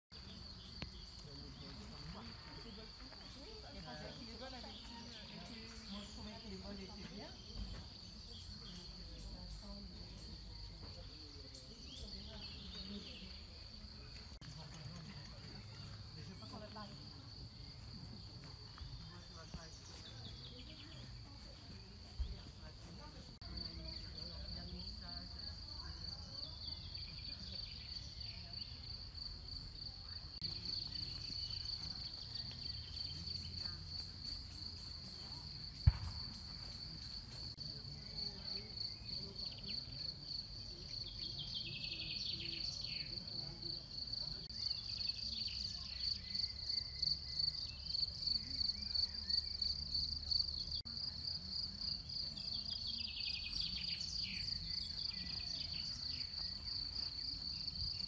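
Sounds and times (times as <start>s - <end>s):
crickets chirping: 0.2s - 58.0s.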